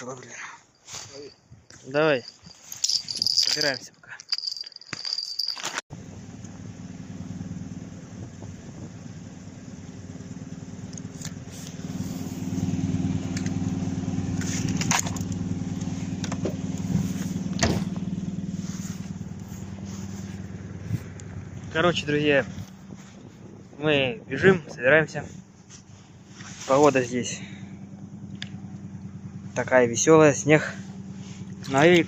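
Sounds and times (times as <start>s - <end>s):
vehicle engine running: 4.4s - 32.0s.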